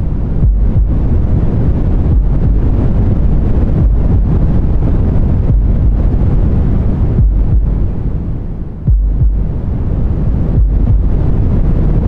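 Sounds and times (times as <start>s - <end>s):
deep white noise: 0.0s - 12.0s.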